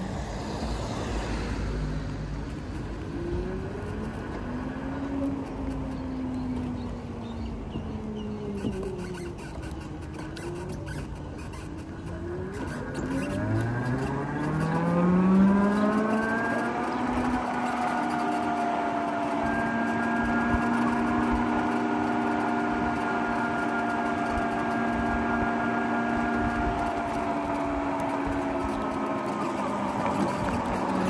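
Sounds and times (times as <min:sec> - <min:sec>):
electric motorcycle motor whine: 0:00.0 - 0:31.0
wind and road noise: 0:00.0 - 0:31.0.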